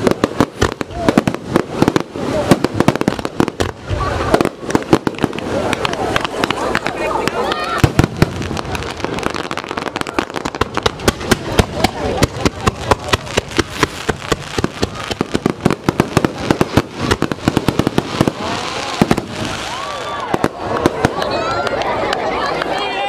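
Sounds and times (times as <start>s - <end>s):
hissing firework crackle: 0.0s - 21.9s.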